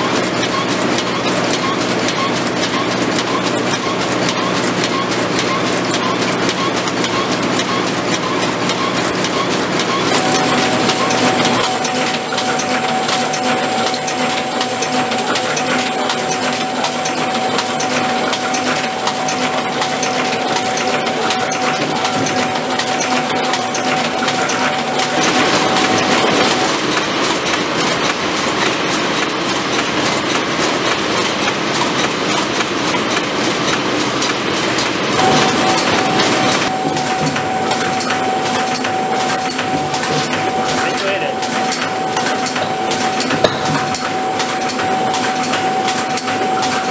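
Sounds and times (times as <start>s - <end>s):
packaging machine clattering: 0.0s - 46.9s.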